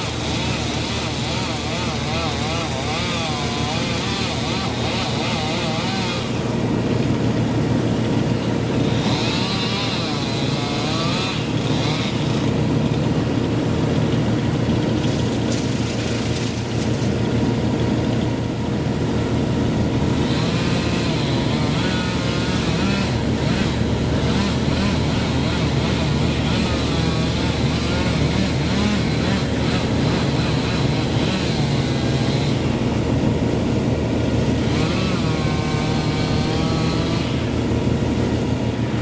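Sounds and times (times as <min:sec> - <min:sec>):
large engine running under load: 0:00.0 - 0:39.0.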